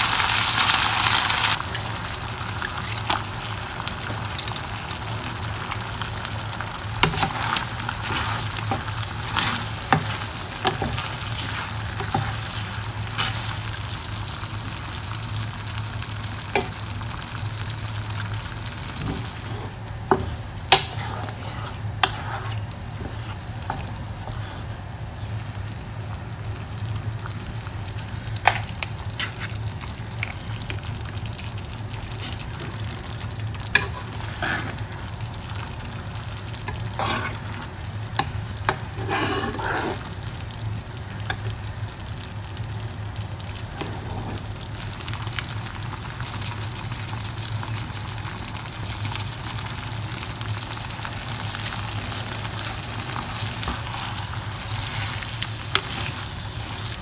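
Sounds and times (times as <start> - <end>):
sauce sizzling in a frying pan: 0.0 - 57.0.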